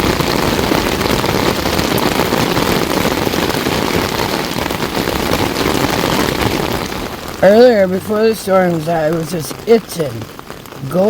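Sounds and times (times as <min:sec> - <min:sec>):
heavy rain on a tent: 0:00.0 - 0:11.0.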